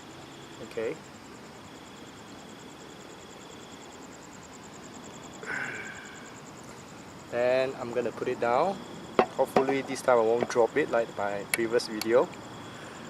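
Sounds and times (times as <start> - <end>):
background hiss: 0.0 - 13.0
insects trilling: 0.0 - 13.0.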